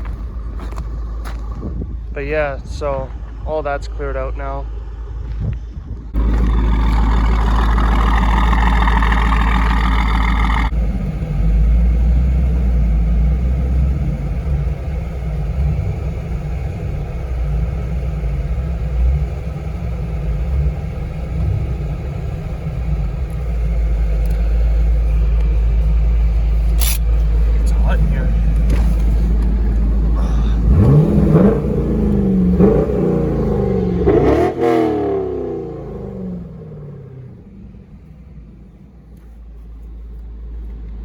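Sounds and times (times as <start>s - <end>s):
car engine exhaust rumble: 0.0s - 41.0s.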